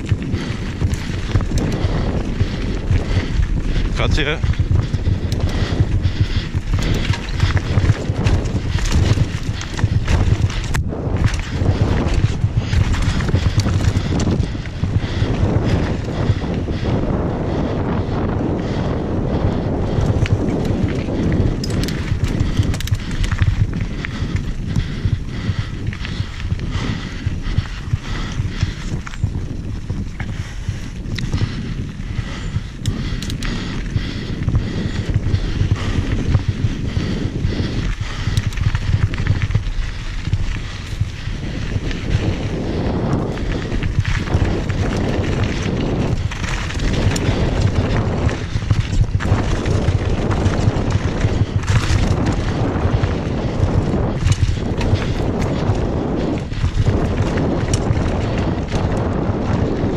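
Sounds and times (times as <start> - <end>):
bike clicks: 0.0 - 59.9
bike tyres crunching on stones: 0.0 - 59.9
wind buffeting microphone: 0.0 - 59.9.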